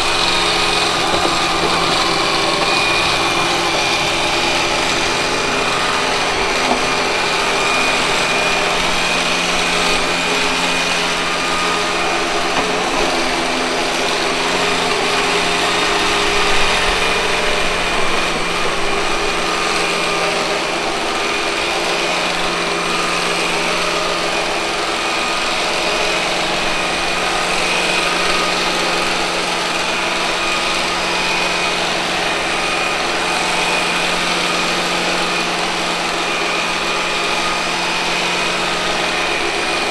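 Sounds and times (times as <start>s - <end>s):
robot vacuum cleaner humming: 0.0s - 39.9s.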